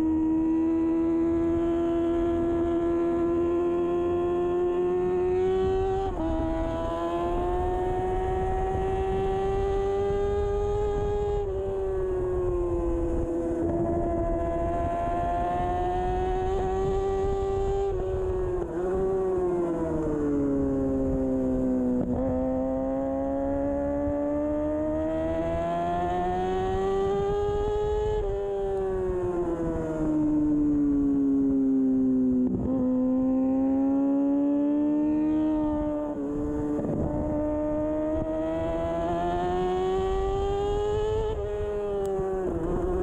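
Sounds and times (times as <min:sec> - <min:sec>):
motorcycle engine revving high: 0:00.0 - 0:43.0.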